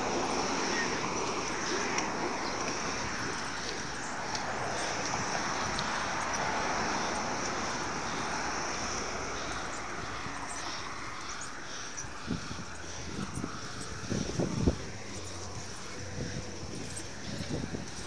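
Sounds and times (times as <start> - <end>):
city street traffic: 0.0 - 18.0
wind on microphone: 0.0 - 18.0.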